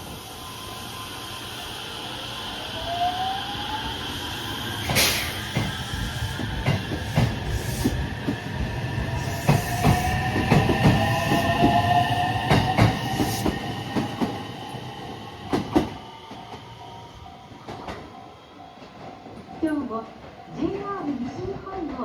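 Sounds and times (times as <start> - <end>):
electric train whine: 0.0 - 22.0.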